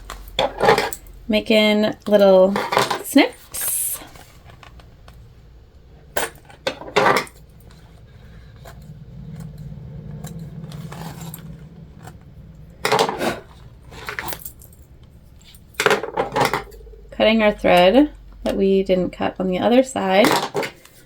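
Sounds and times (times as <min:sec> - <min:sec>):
low steady hum: 0:00.0 - 0:20.6.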